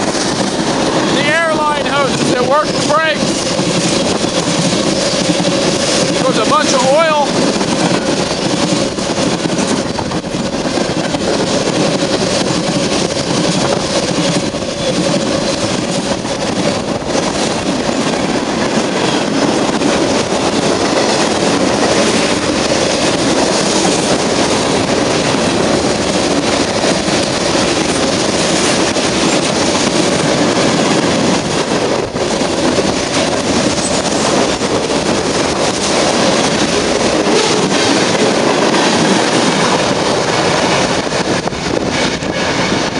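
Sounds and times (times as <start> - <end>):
train wheels rolling on rails: 0.0 - 42.9.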